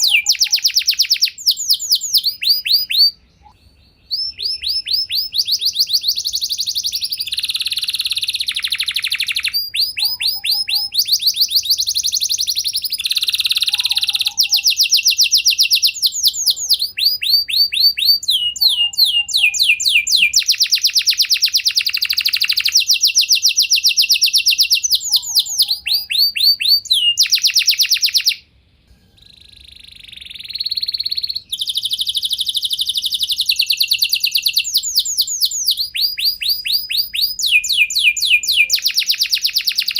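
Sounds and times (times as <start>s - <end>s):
canary singing trills: 0.0s - 28.4s, 29.1s - 39.9s.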